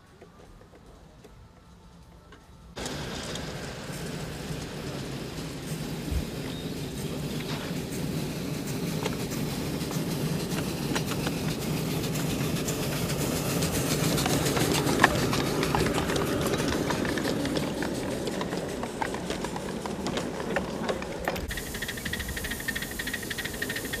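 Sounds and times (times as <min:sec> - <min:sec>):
model train wheels rumbling: 0:02.6 - 0:24.0.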